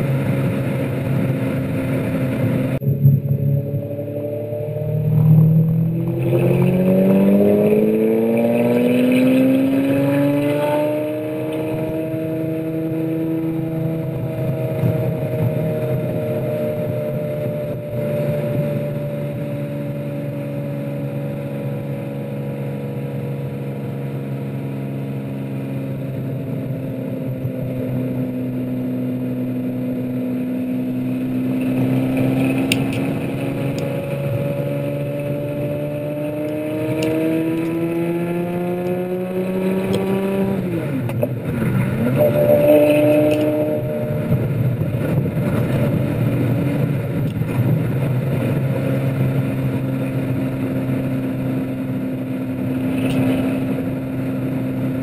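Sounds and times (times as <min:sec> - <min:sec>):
sports car engine revving: 0:00.0 - 0:55.0.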